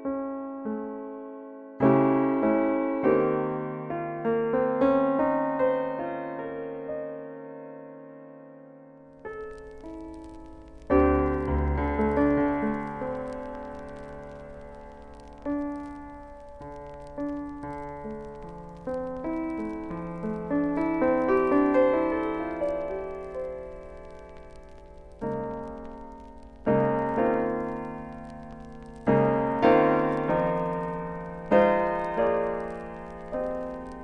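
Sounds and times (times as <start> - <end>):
soft piano music: 0.0 - 34.0.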